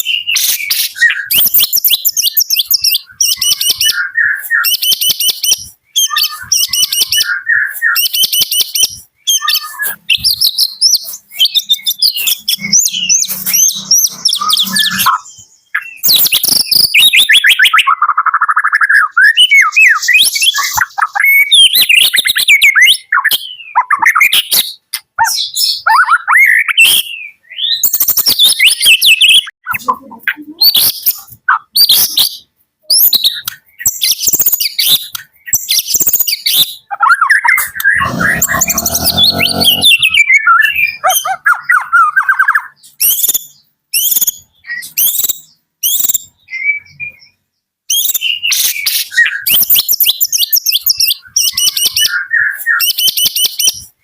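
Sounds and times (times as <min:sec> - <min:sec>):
bird singing whistles and trills: 0:00.0 - 0:29.5, 0:39.8 - 0:53.9.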